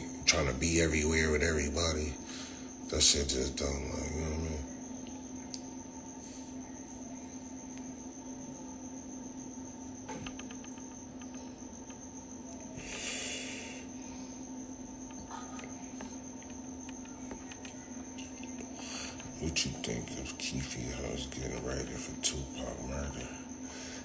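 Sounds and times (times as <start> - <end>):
steady high whine: 0.0 - 24.0.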